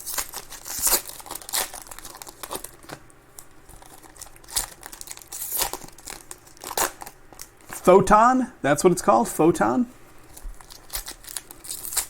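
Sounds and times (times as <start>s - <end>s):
wrappers crinkling and tearing: 0.0s - 7.9s, 10.2s - 12.0s.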